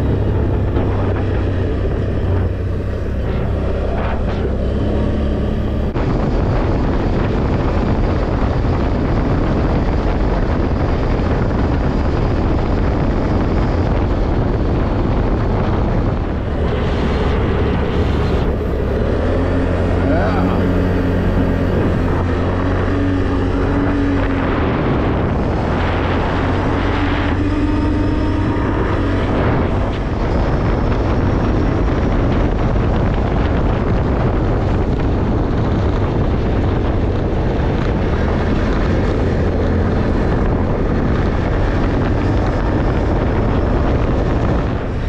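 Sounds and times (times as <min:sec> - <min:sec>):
vehicle engine drone: 0:00.0 - 0:45.0.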